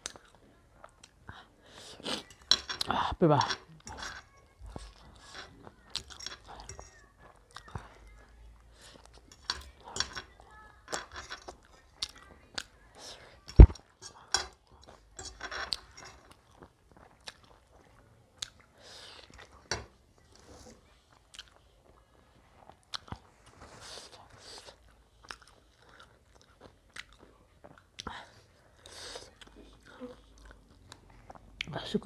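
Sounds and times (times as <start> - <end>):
chewing noodles: 0.0 - 31.8.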